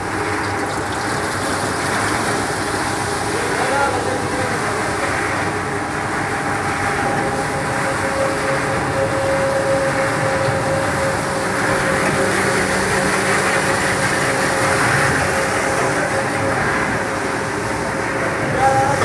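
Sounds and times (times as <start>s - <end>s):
production-line machinery running: 0.0s - 19.0s
steady mechanical hum: 0.0s - 19.0s.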